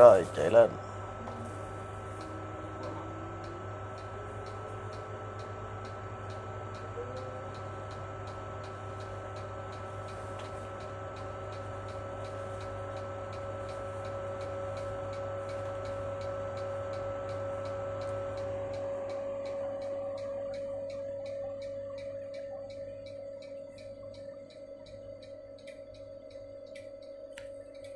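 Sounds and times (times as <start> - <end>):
electric drive whine: 0.0 - 27.9
regular ticking clicks: 2.0 - 27.9.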